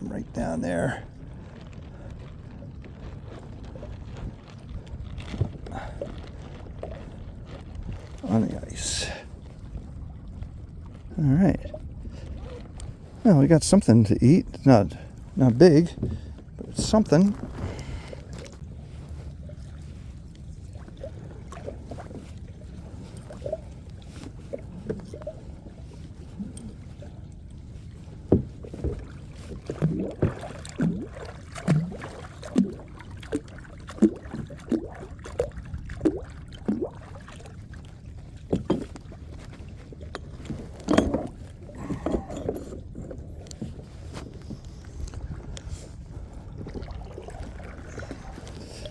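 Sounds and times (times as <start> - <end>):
rush of water and wind: 0.0 - 48.9
paddle plunking into water: 0.3 - 48.9.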